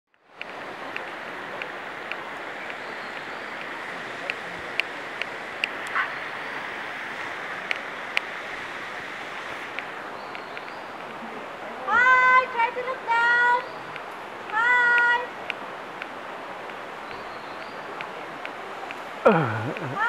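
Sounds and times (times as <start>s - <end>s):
rushing forest ambience: 0.1s - 20.0s.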